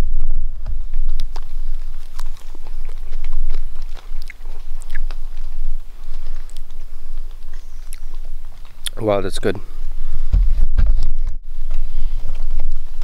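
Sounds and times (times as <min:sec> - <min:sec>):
person chewing with crisp crunches: 0:00.0 - 0:10.3, 0:11.0 - 0:13.0
steady low rumble: 0:00.0 - 0:13.0.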